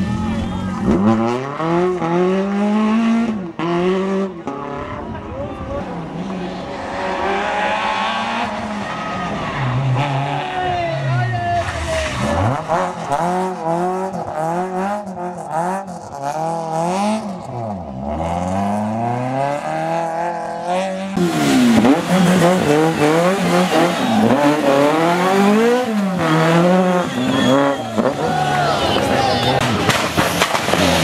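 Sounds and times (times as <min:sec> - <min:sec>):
rally car engine revving: 0:00.0 - 0:31.0
rally car passing close: 0:00.7 - 0:10.8, 0:11.5 - 0:31.0.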